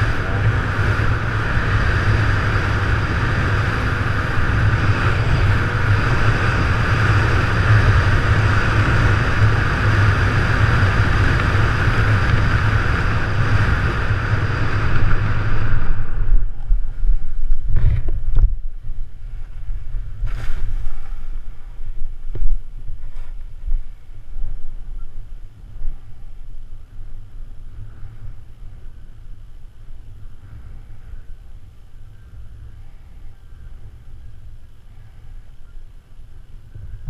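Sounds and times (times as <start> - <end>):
wind buffeting on microphone: 0.0 - 37.0
wind noise on microphone: 0.0 - 37.0.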